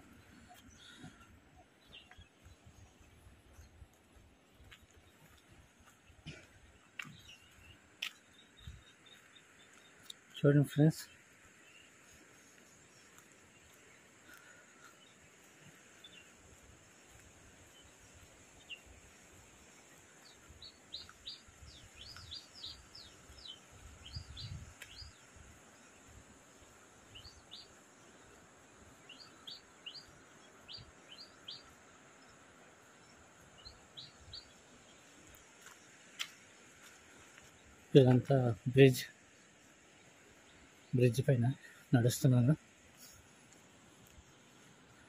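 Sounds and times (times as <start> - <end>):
faint hiss: 0.0 - 45.0
small birds chirping: 0.0 - 45.0.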